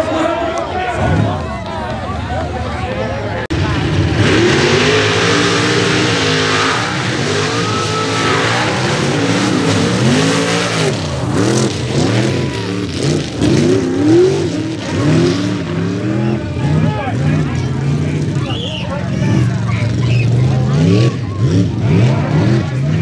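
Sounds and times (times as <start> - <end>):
truck engine revving: 3.4 - 23.0
tires spinning in dirt: 3.5 - 23.0.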